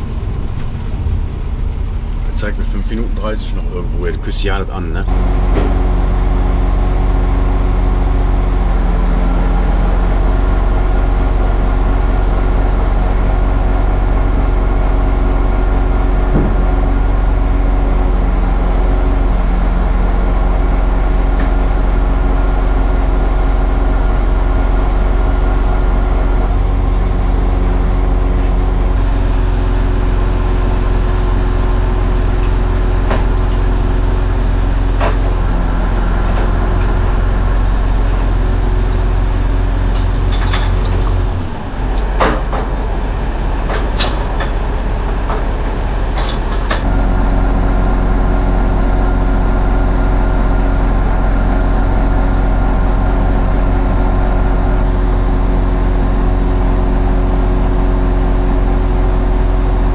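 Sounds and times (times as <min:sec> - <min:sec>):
crane hydraulics and diesel engine: 0:00.0 - 0:59.9.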